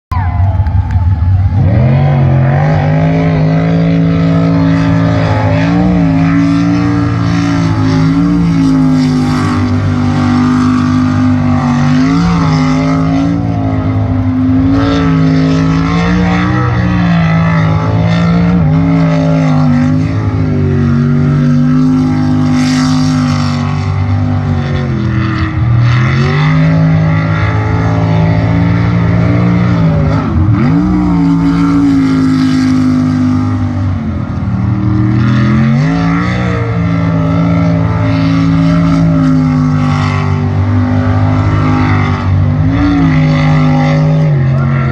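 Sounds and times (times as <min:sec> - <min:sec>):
boat engine revving: 0:00.1 - 0:44.9.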